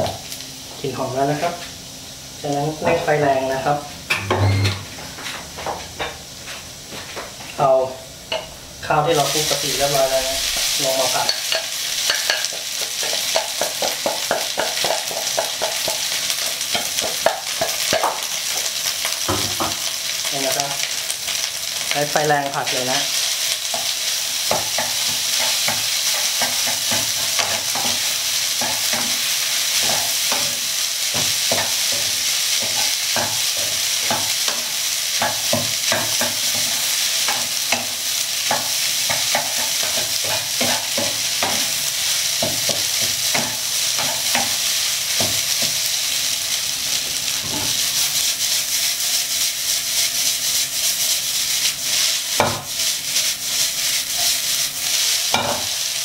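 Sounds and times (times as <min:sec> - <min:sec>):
rice sizzling in a wok: 0:00.0 - 0:04.2, 0:04.9 - 0:56.0.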